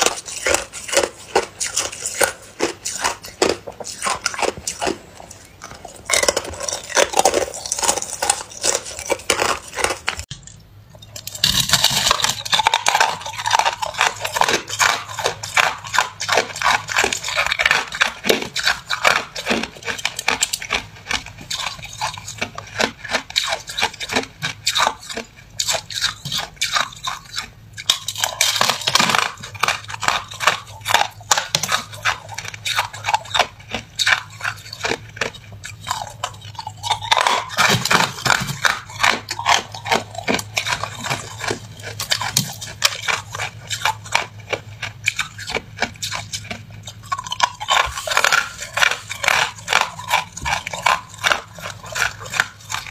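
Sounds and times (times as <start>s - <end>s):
teeth crunching ice: 0.0s - 52.9s.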